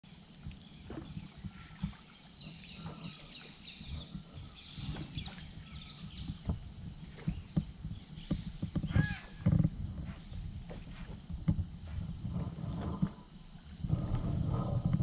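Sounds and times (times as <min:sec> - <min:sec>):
water lapping against canoe: 0:00.1 - 0:15.0
birds chirping: 0:00.6 - 0:14.8.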